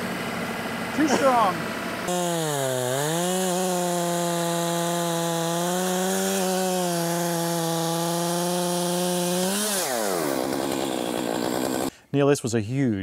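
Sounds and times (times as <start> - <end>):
chainsaw cutting log: 1.0 - 11.9.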